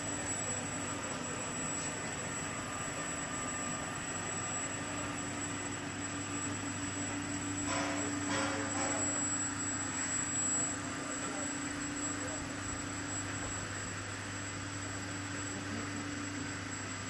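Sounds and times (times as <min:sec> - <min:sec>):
machinery motor hum: 0:00.0 - 0:17.0.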